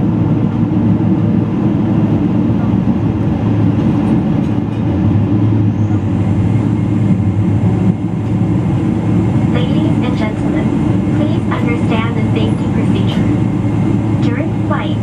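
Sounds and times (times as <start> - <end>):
jet engines idling rumble: 0.0 - 15.0.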